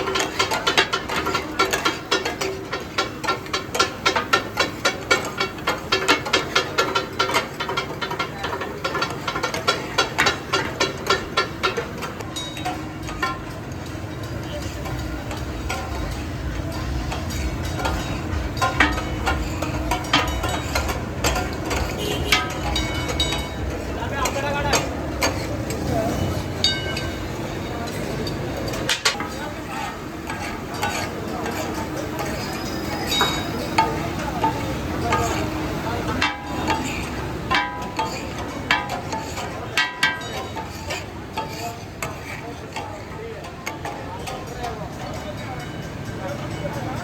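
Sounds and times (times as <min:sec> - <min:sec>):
metal spatulas clanking on griddle: 0:00.0 - 0:47.0.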